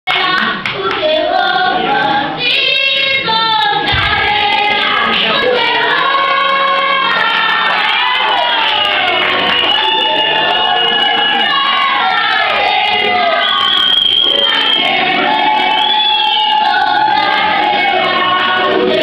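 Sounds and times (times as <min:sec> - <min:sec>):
children's choir singing: 0:00.1 - 0:19.0.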